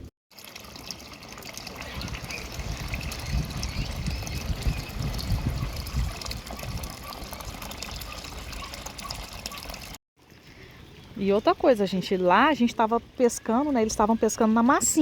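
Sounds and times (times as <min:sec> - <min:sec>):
running water rushing: 0:00.3 - 0:15.0.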